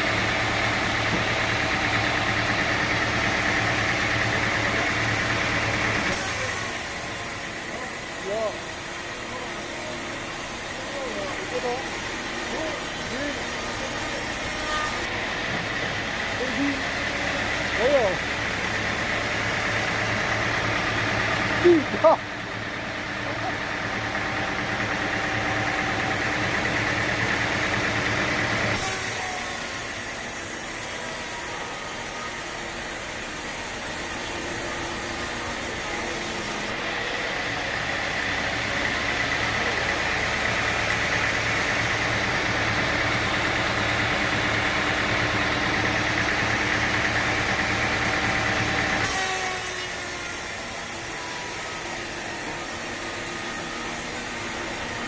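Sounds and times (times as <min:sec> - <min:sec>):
engine droning: 0:00.0 - 0:55.0
saw cutting through wood: 0:00.0 - 0:55.0.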